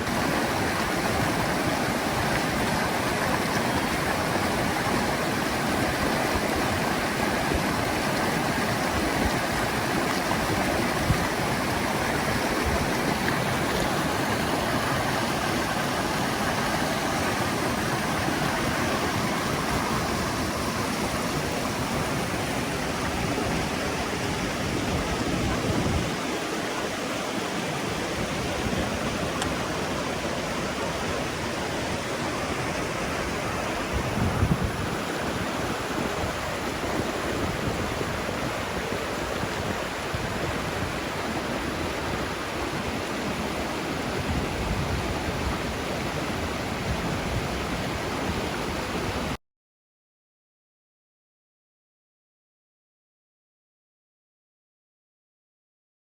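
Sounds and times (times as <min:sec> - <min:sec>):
creek water rushing: 0:00.0 - 0:49.4.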